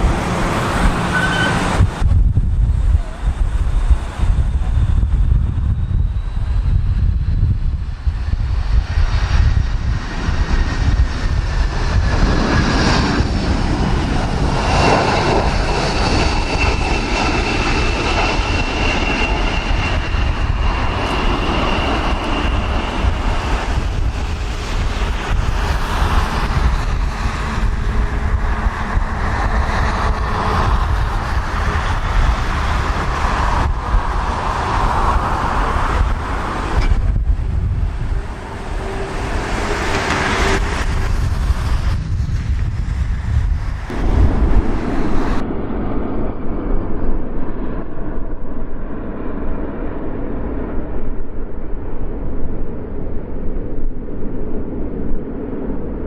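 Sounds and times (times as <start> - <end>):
jet engines whining: 0.0 - 50.8
wind buffeting microphone: 0.0 - 56.0.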